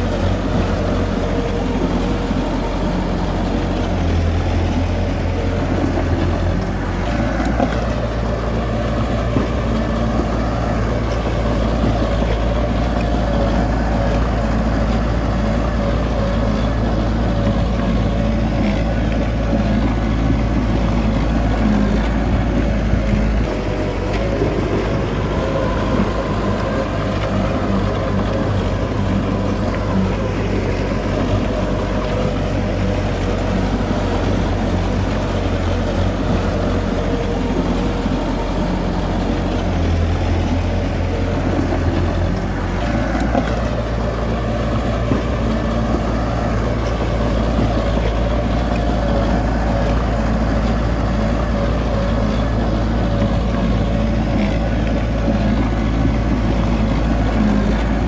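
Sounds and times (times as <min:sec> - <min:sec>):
heavy diesel machinery engine: 0:00.0 - 0:58.0.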